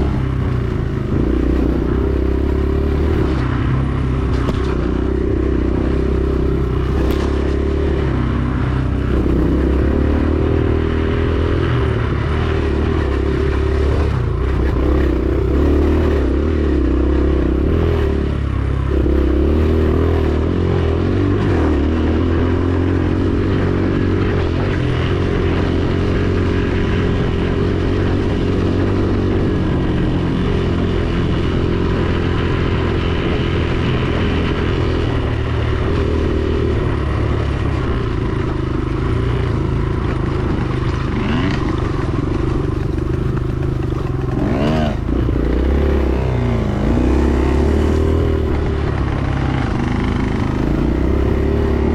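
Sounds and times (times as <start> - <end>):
dirt bike engine running: 0.0 - 51.9.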